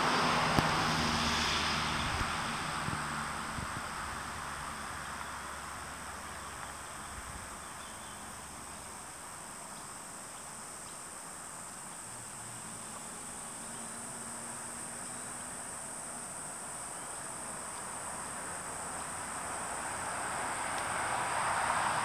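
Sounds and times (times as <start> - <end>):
insects calling: 0.0 - 22.0.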